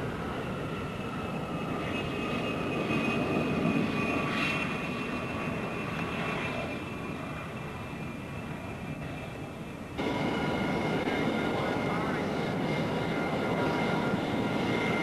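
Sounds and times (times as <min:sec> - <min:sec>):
jet engine rumble: 0:00.0 - 0:15.0
jet engine turbine whine: 0:00.0 - 0:15.0.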